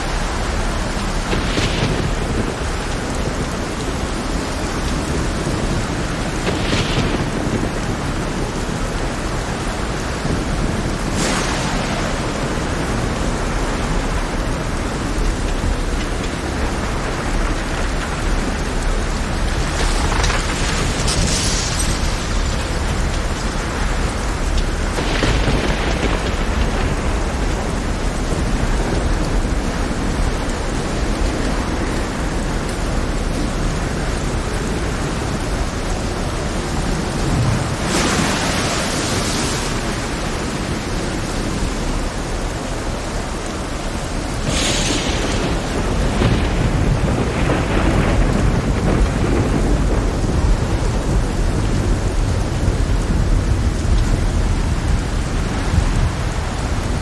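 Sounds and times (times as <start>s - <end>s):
heavy rain falling: 0.0s - 57.0s
thunder rumbling: 0.0s - 57.0s.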